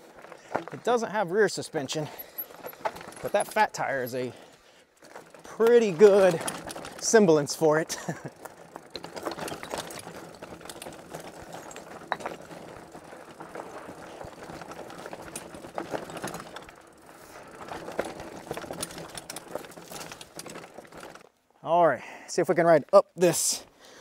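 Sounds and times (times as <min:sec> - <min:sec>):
tires crunching on loose stones: 0:00.0 - 0:21.3
bike clicking and rattling: 0:00.0 - 0:21.4.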